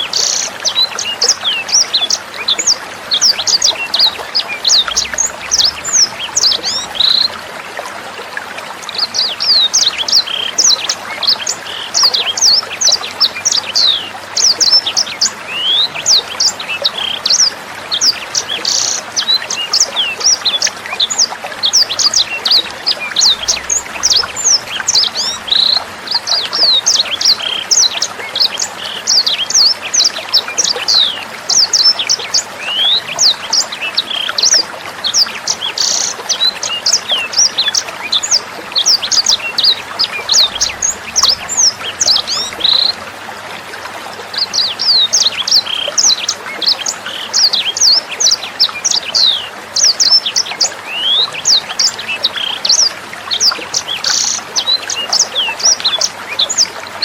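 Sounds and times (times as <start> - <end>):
trickling water: 0.0 - 57.0.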